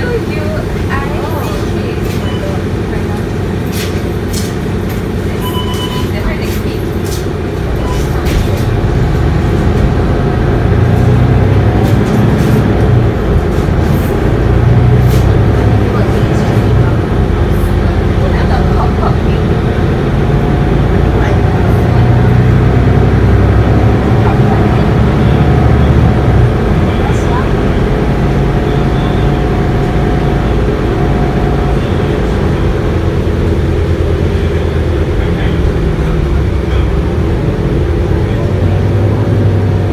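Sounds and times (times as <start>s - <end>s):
bus engine drone inside cabin: 0.0s - 39.9s.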